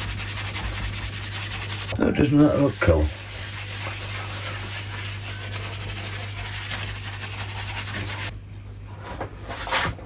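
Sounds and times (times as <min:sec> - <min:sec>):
low mains hum: 0:00.0 - 0:10.0.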